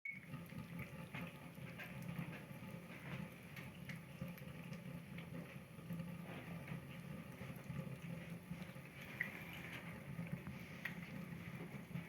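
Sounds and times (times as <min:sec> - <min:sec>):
kittens chewing and lapping: 0:00.2 - 0:12.0.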